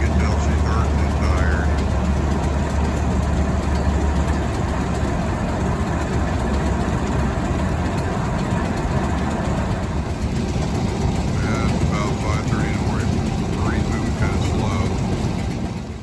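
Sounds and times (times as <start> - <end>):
conveyors mechanical din: 0.0 - 16.0
diesel engine rumble: 0.0 - 16.0.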